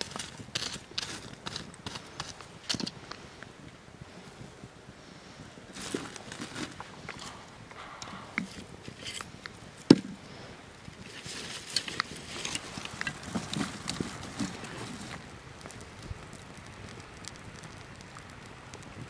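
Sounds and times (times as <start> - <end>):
sharp snaps of burning wood: 0.0 - 4.5, 5.6 - 19.0
wood fire crackling: 0.0 - 19.0.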